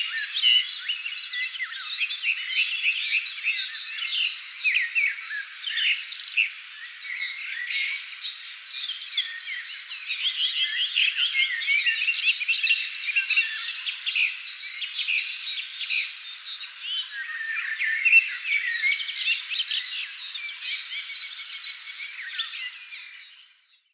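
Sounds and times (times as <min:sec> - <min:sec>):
songbirds chirping and trilling: 0:00.0 - 0:23.9.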